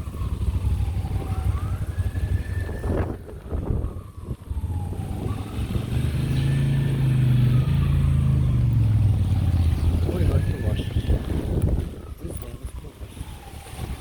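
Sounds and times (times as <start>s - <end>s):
large vehicle engine humming: 0.0s - 12.1s.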